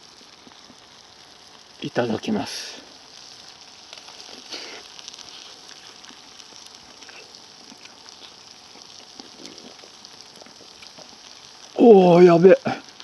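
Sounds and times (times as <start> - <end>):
campfire hissing: 0.0 - 13.0
crackling pops: 0.0 - 13.0.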